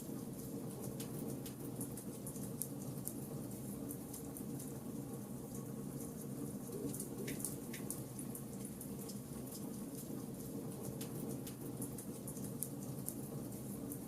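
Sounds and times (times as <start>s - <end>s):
charcoal fire crackling: 0.0s - 14.0s
low background noise: 0.0s - 14.0s.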